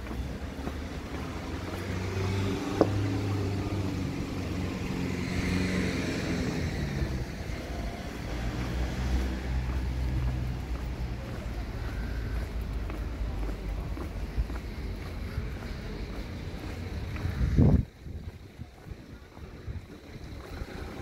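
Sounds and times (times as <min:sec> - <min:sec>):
vehicle passing: 0:00.0 - 0:18.7.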